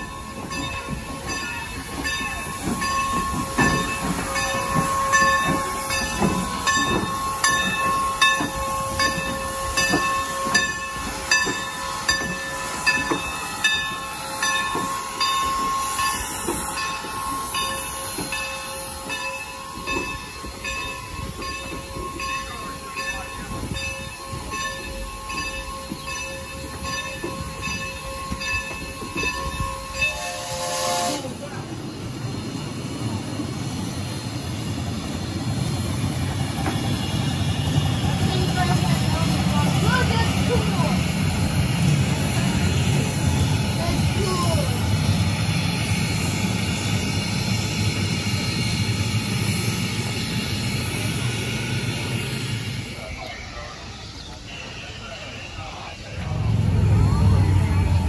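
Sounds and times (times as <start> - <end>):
train bell ringing: 0.0 - 58.0.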